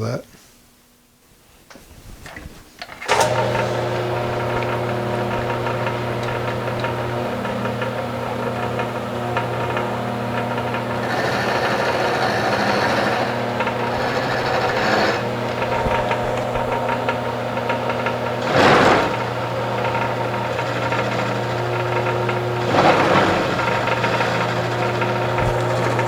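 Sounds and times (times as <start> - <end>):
milling machine motor hum: 3.1 - 26.0.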